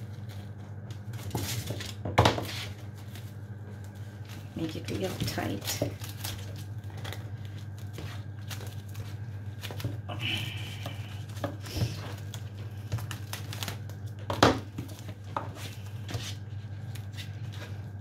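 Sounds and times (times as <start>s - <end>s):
cling film crinkling: 2.6s - 18.0s.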